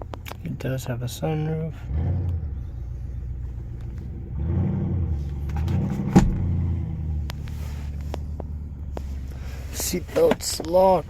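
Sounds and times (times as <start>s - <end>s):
engine running: 1.1s - 11.0s.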